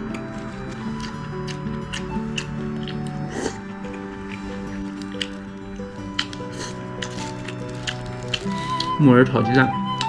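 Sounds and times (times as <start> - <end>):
background music with sustained notes: 0.0 - 10.0.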